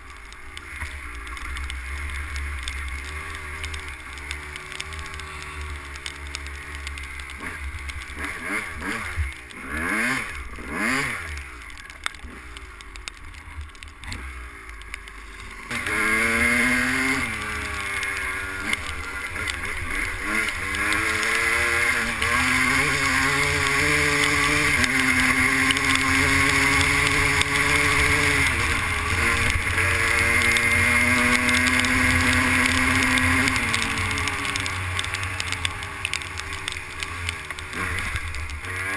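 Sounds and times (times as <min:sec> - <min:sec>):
dirt bike engine revving: 0:00.6 - 0:38.9.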